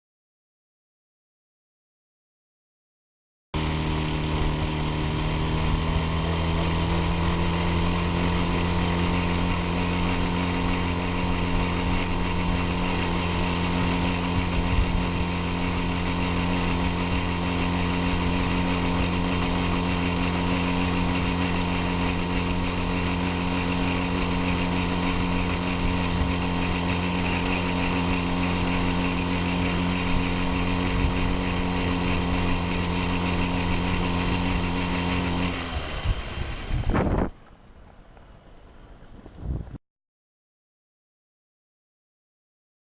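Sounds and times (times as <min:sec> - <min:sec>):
small two-stroke engine running: 0:03.6 - 0:39.6.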